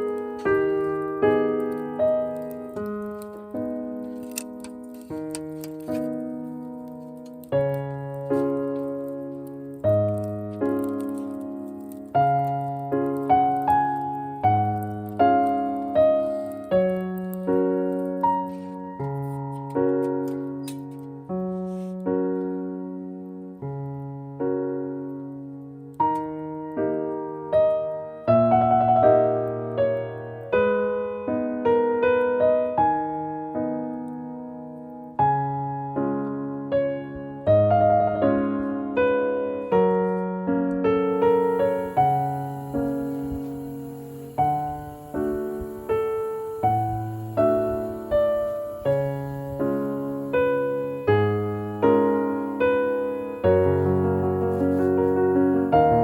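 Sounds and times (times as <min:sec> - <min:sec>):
slow solo piano melody: 0:00.0 - 0:56.0.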